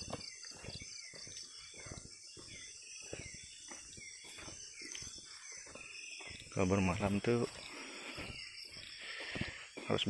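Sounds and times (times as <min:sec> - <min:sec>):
crickets trilling: 0:00.0 - 0:10.0
footsteps crunching on forest floor: 0:00.0 - 0:10.0.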